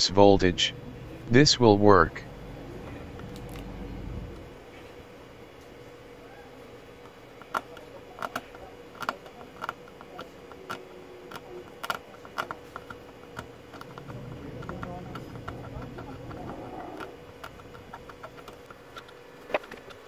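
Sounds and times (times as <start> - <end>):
faint steady hum: 0.0 - 20.0
solder flux crackling: 0.5 - 20.0.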